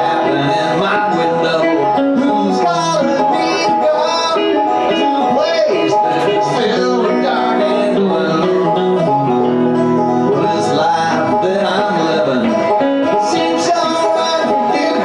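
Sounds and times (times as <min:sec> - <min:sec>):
banjo: 0:00.0 - 0:15.0
electric guitar: 0:00.0 - 0:15.0.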